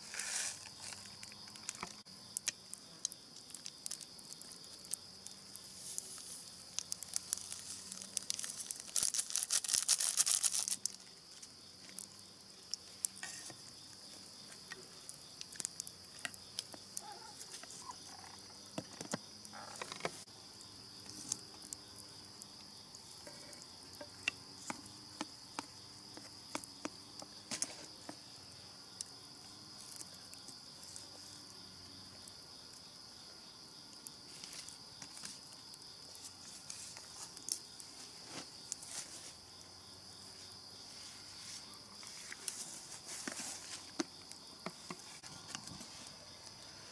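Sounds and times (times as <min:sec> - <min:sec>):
insects chirring: 0:00.0 - 0:46.9.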